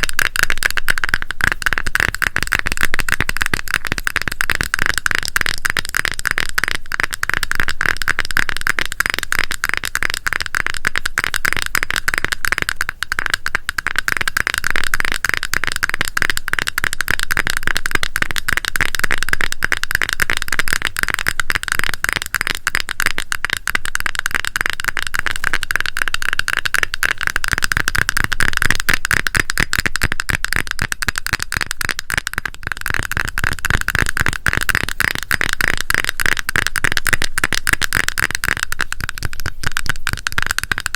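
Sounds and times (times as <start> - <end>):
tapping and scratching on container: 0.0 - 40.9.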